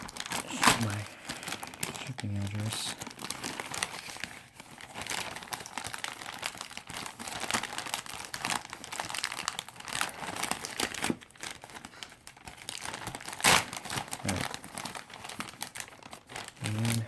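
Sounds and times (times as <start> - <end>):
package wrapping crinkling: 0.0 - 17.0
wrapping tearing: 0.0 - 17.0.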